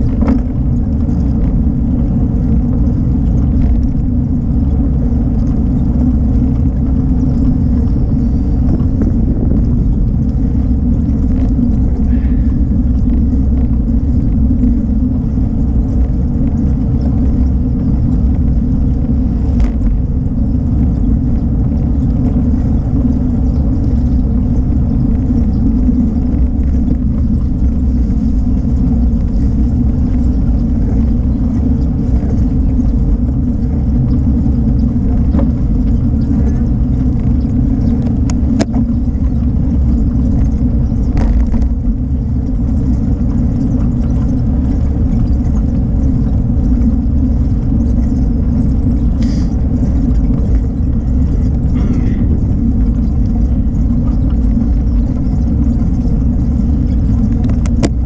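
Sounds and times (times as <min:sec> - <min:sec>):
bicycle tyres rolling on asphalt: 0:00.0 - 0:58.0
wind buffeting microphone: 0:00.0 - 0:58.0.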